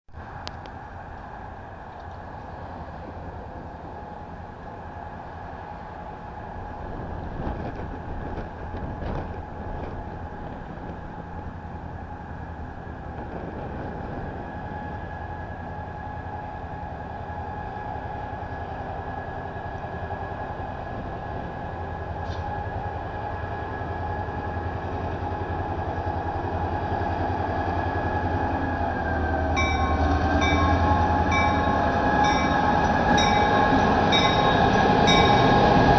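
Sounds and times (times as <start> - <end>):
diesel locomotive engine rumble: 0.1 - 35.9.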